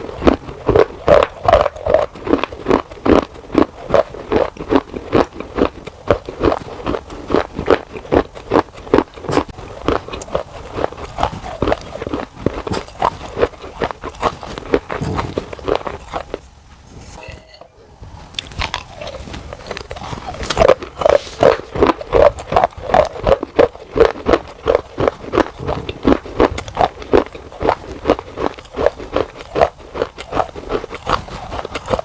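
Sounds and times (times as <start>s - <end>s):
gritty chewing crunches: 0.0s - 16.5s, 18.3s - 32.0s.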